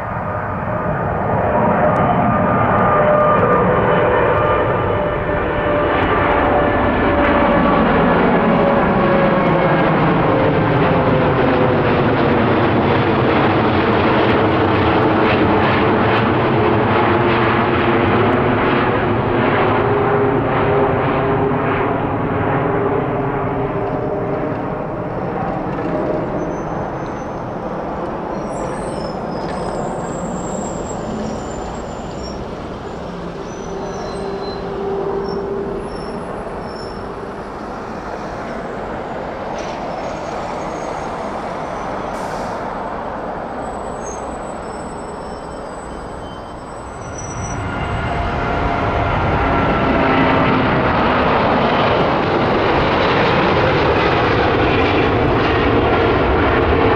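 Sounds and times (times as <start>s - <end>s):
jet engine roar: 0.0s - 56.9s.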